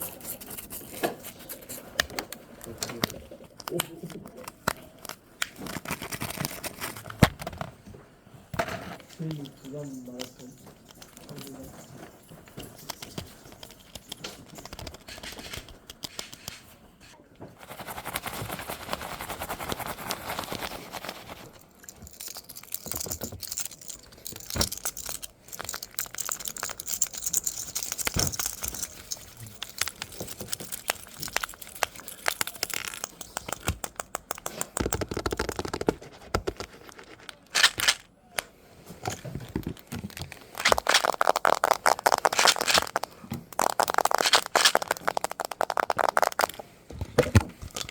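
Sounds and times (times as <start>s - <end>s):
scratching and crinkling objects: 0.0s - 47.9s.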